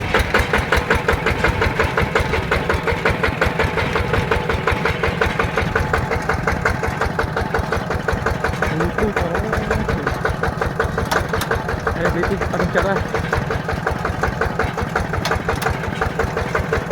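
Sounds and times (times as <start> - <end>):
diesel tractor engine chugging: 0.0 - 16.9.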